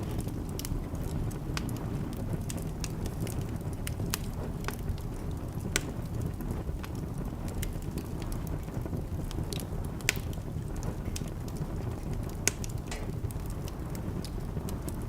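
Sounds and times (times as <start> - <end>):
burning wood popping: 0.0 - 15.0
fire flames rumbling: 0.0 - 15.0
wood fire crackling: 0.0 - 15.0.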